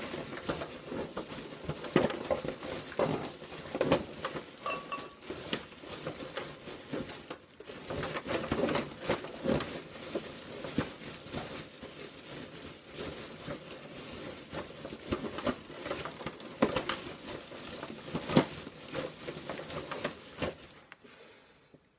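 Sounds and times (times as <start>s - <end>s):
rustling and crinkling: 0.0s - 21.9s.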